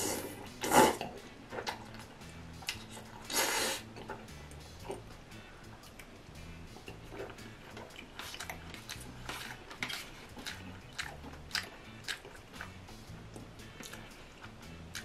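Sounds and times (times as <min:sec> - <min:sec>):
mouth smacks and clicks: 0:00.0 - 0:05.1, 0:05.8 - 0:15.0
wet chewing: 0:00.0 - 0:05.1, 0:05.7 - 0:15.0.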